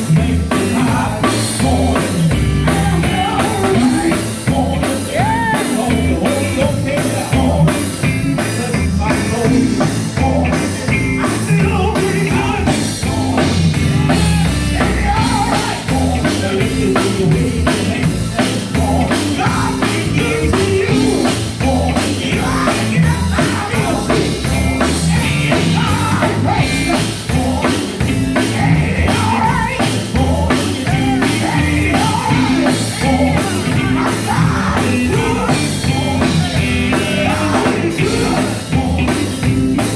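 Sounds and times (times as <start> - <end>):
drum kit beat: 0.0 - 39.9
gospel band music: 0.0 - 39.9
people singing: 0.0 - 39.9.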